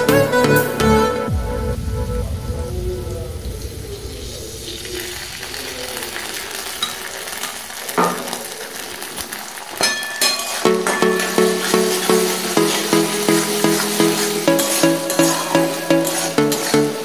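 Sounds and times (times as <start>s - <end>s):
food sizzling in a wok: 3.3s - 17.0s.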